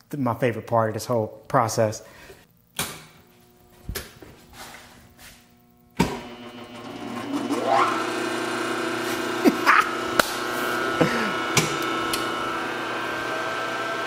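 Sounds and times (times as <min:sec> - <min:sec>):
electric machine whine and hum: 0:02.4 - 0:14.0.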